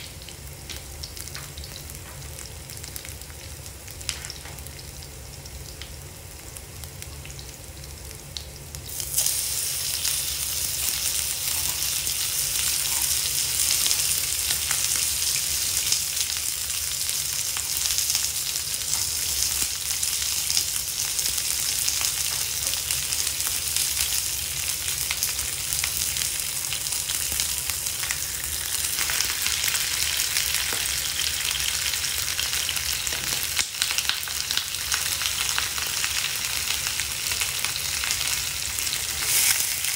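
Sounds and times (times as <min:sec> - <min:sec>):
garlic sizzling in oil: 0:00.0 - 0:39.9
pork frying loud sizzle: 0:00.0 - 0:39.9.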